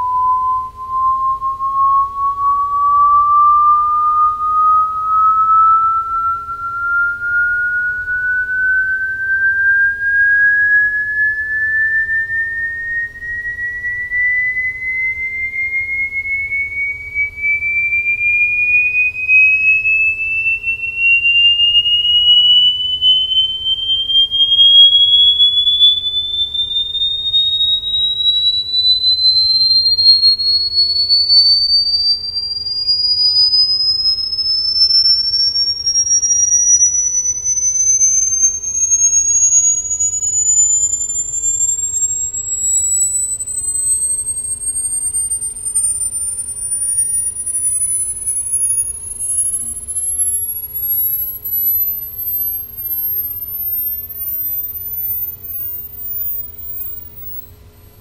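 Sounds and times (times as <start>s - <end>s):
rising sine test tone: 0.0s - 58.0s.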